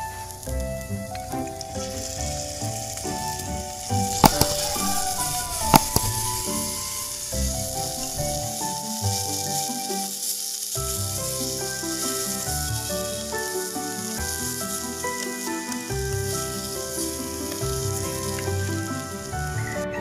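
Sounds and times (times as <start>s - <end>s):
food sizzling in a pan: 0.0s - 20.0s
instrumental background music: 0.0s - 20.0s.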